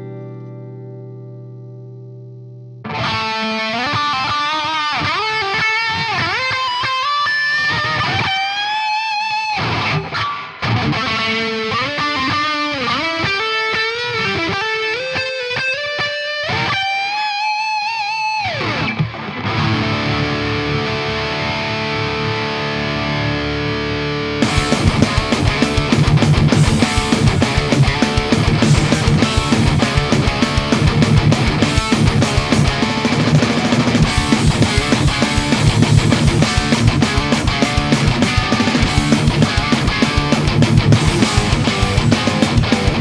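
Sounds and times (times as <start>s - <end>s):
distorted guitar chords: 0.0s - 43.0s
electric guitar lead line: 0.0s - 43.0s.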